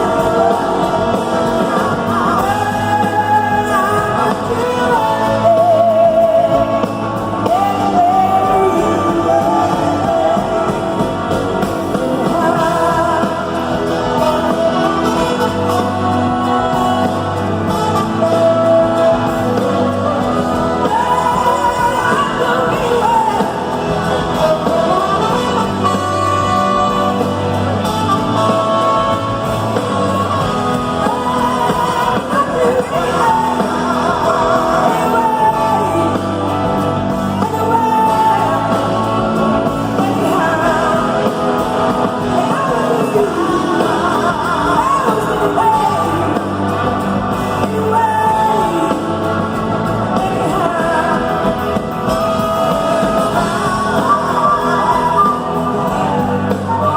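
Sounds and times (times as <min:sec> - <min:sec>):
bending lead melody: 0:00.0 - 0:56.9
live blues-rock band: 0:00.0 - 0:56.9.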